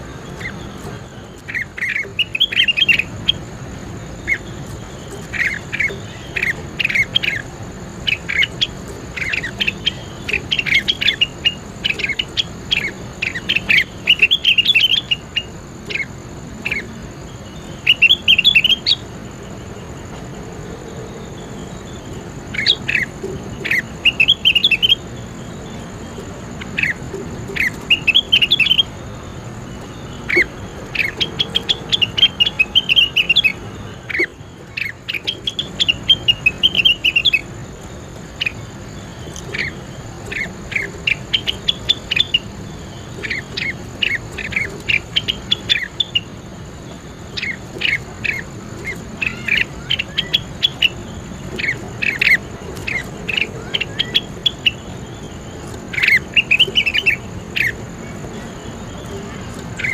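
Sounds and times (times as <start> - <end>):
songbird chattering: 0.0 - 59.9.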